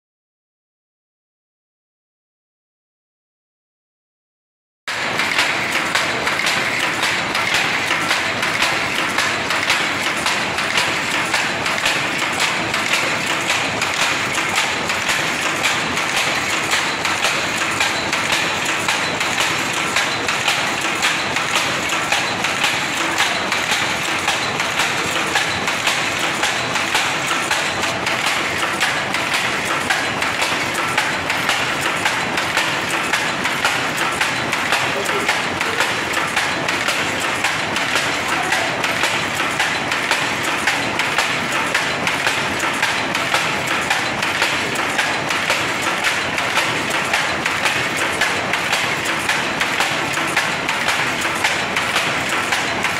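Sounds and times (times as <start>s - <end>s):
power loom clattering: 4.9s - 52.9s.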